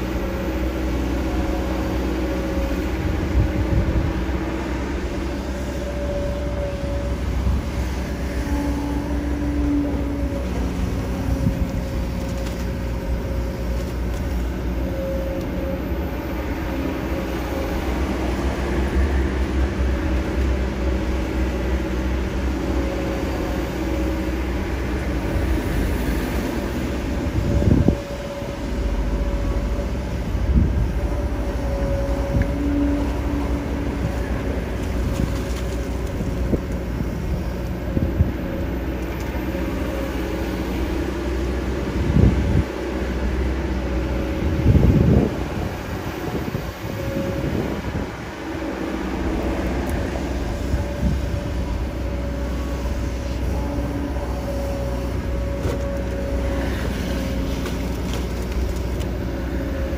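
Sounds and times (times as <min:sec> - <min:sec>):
excavator diesel engine working: 0:00.0 - 0:59.9.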